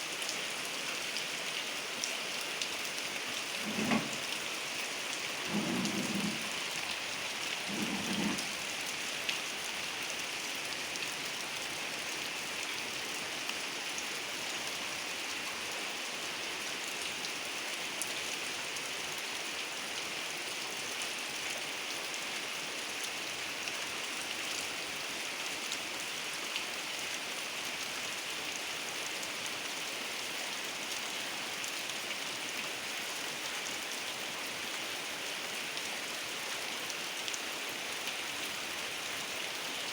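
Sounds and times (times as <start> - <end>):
heavy rain falling: 0.1 - 39.9.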